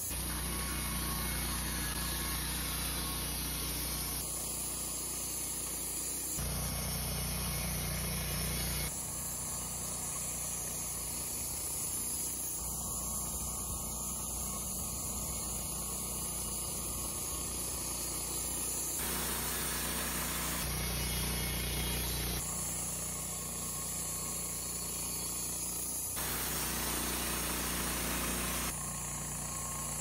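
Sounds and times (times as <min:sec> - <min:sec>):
band sawmill sawing a log: 0:00.0 - 0:30.0.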